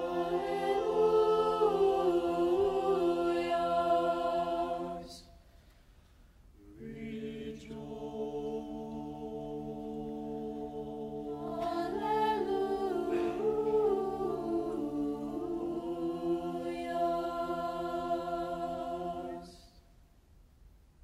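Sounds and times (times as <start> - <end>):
choir singing: 0.0 - 5.4, 6.6 - 19.8.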